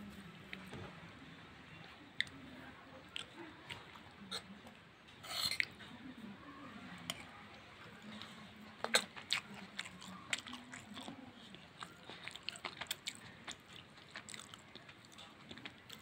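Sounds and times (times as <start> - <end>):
low room noise: 0.0 - 16.0.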